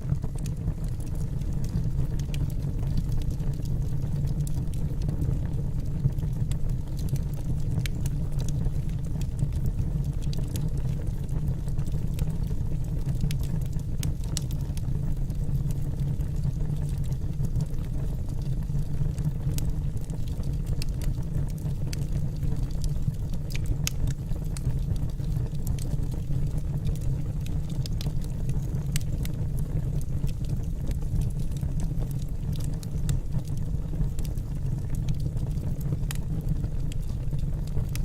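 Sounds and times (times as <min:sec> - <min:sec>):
fire flames rumbling: 0:00.0 - 0:38.0
logs crackling and popping: 0:00.1 - 0:38.0.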